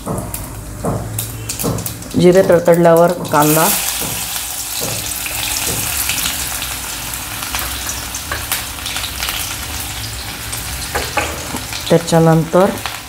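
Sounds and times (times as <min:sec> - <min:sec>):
onion sizzling in hot oil: 0:00.6 - 0:13.0.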